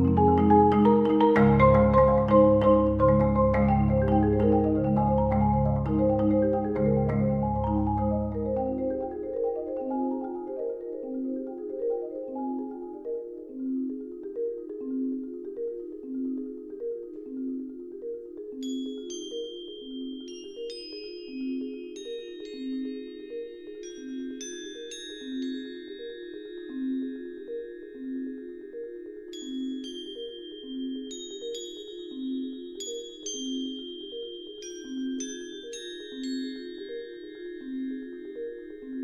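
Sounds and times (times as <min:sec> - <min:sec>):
marimba-like mallet music: 0:00.0 - 0:39.0.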